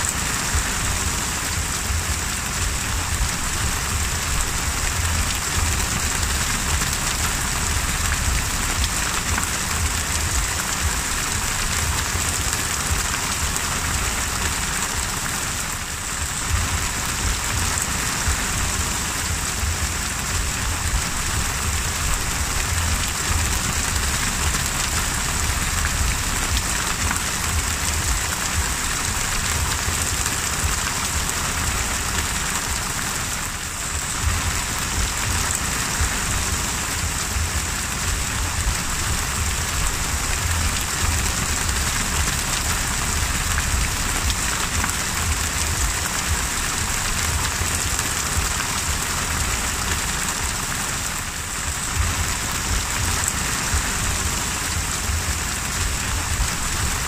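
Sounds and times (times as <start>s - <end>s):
low rumble: 0.0s - 50.6s
heavy rain on water: 0.0s - 57.0s.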